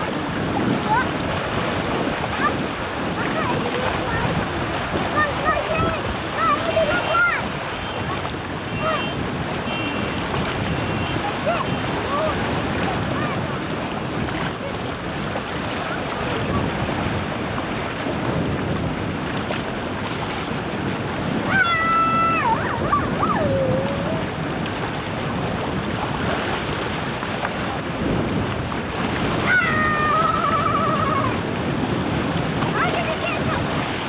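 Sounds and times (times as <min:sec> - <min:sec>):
water lapping at rocky shore: 0:00.0 - 0:34.0
wind buffeting microphone: 0:00.0 - 0:34.0.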